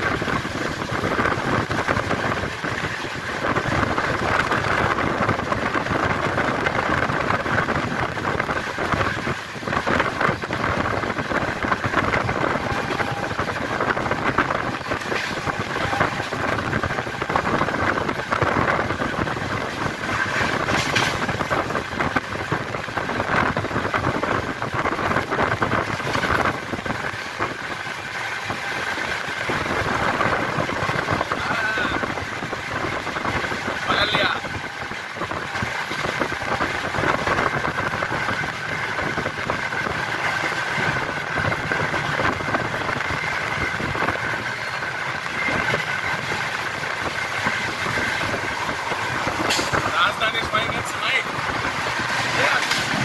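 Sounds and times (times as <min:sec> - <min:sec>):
rushing wind: 0:00.0 - 0:53.0
train wheels clattering on rails: 0:00.0 - 0:53.0.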